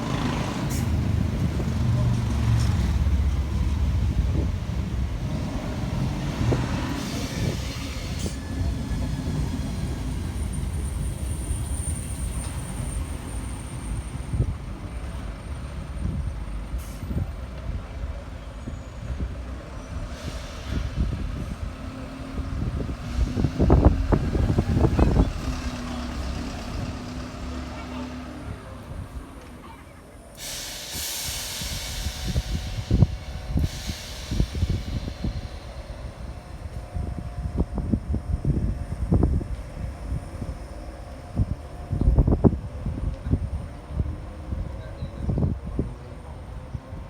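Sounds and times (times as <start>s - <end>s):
heavy vehicle rumbling: 0.0s - 47.0s.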